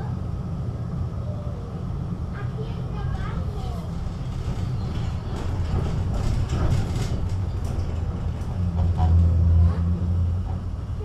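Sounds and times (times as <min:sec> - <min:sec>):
tram running with low rumble: 0:00.0 - 0:11.0.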